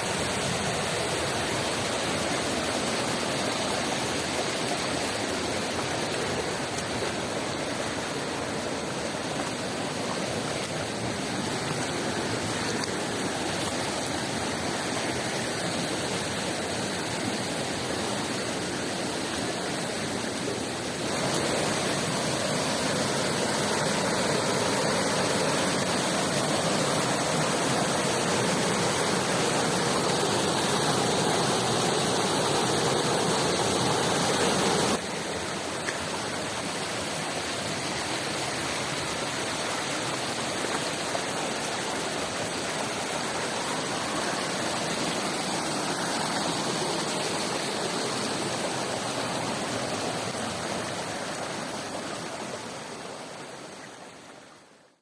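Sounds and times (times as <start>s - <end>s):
rushing mountain stream: 0.0s - 55.0s.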